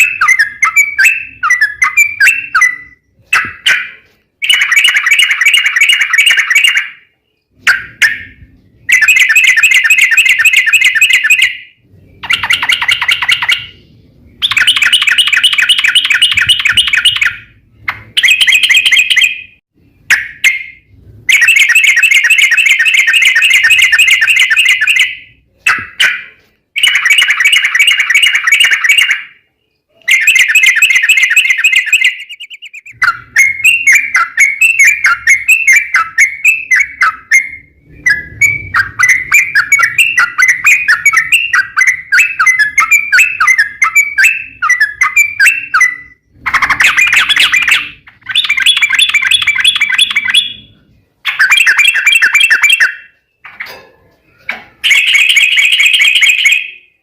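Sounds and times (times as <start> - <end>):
bulbul singing: 0.0 - 53.7.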